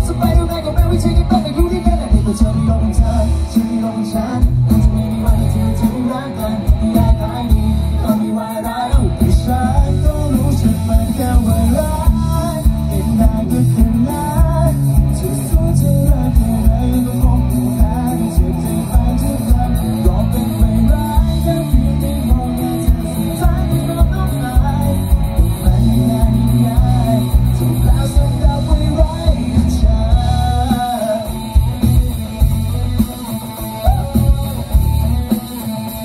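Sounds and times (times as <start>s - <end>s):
drum kit steady beat: 0.0s - 36.0s
electric guitar: 0.0s - 36.0s
person singing: 0.0s - 36.0s.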